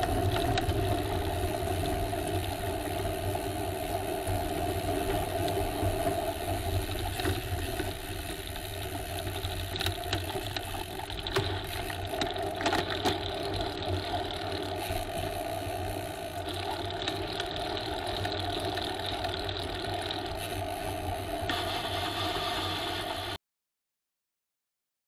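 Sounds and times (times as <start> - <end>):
bicycle clicks and rattles: 0.0 - 23.4
bicycle rolling rumble: 0.0 - 23.4.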